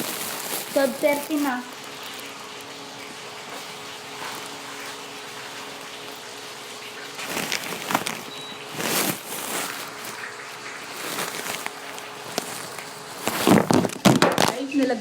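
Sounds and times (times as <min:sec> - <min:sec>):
fish sizzling in hot oil: 0:00.0 - 0:14.1
oil crackling: 0:00.0 - 0:14.9.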